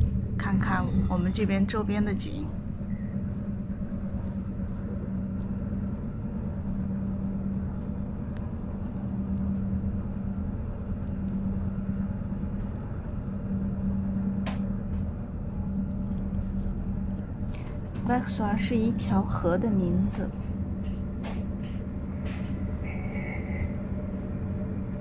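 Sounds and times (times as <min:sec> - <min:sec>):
motor hum: 0:00.0 - 0:25.0
train rumble inside carriage: 0:00.0 - 0:25.0.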